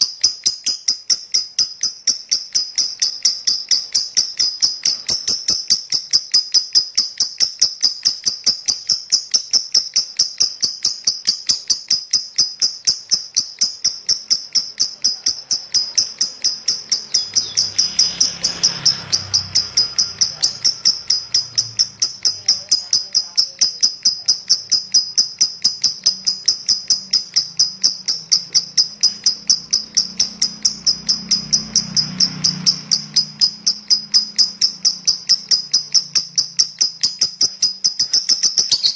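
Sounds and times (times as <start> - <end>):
lovebird chirping rapidly: 0.0 - 38.9.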